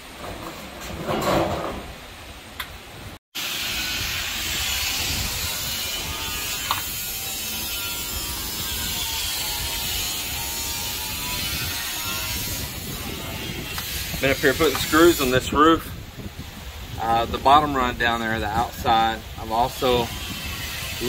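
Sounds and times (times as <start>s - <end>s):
wind blowing over microphone: 1.4s - 21.0s.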